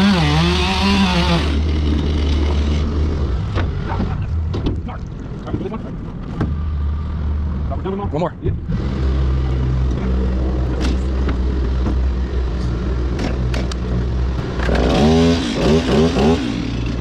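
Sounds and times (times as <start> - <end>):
diesel machinery running: 0.0 - 17.0.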